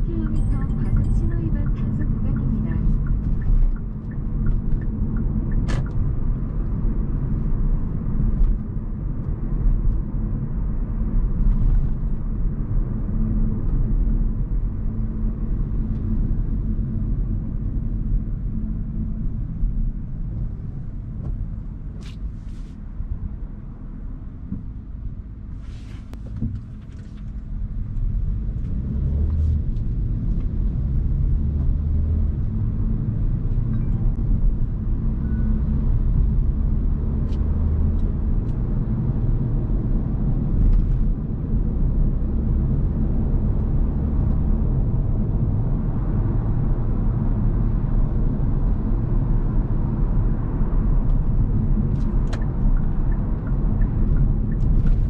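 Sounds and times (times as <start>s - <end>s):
car driving rumble: 0.0s - 55.0s
tyre road noise: 0.0s - 55.0s.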